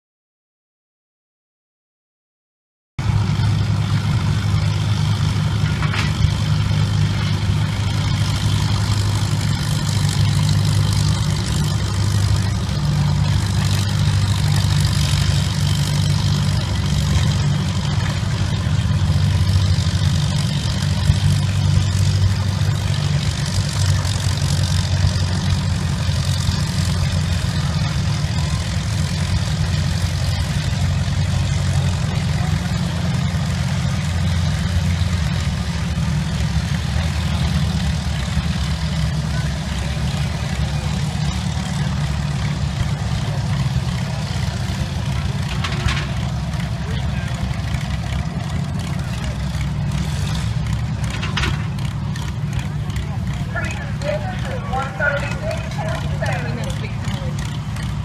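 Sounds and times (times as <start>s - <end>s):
tractor engine running under load: 3.0s - 58.0s.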